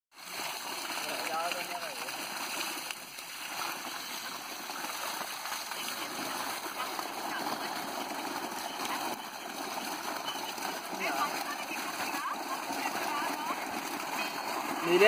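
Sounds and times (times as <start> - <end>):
water gushing from pipe: 0.1 - 15.0
water splashing onto ground: 0.1 - 15.0.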